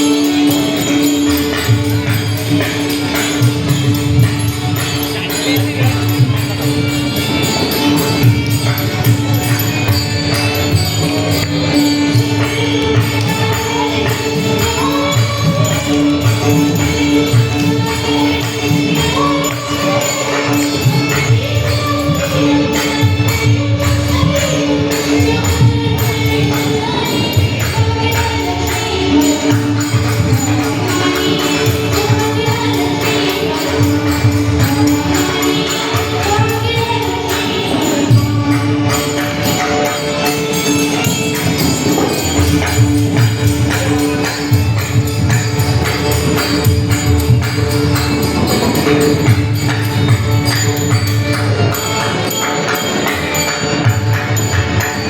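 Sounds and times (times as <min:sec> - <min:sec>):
voices singing together: 0:00.0 - 0:50.7
hand cymbals clashing: 0:00.0 - 0:55.0.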